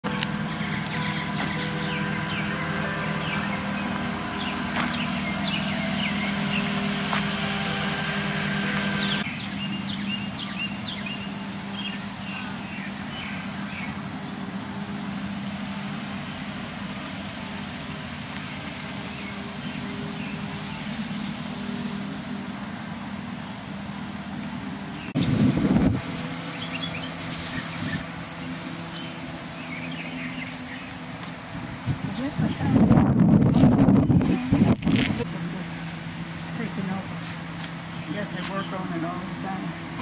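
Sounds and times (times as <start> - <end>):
birds chirping: 0.0 - 15.0, 16.0 - 21.9, 22.7 - 33.0, 33.8 - 40.0
low mechanical hum: 0.0 - 40.0.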